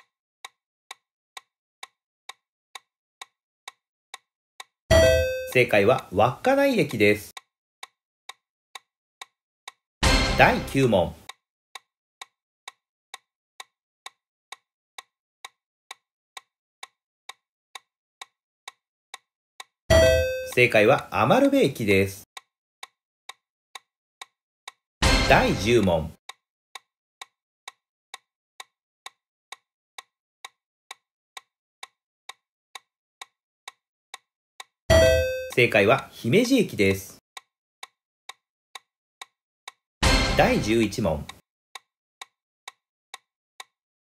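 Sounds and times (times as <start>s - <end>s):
clock ticking: 0.0s - 36.6s, 37.4s - 43.8s.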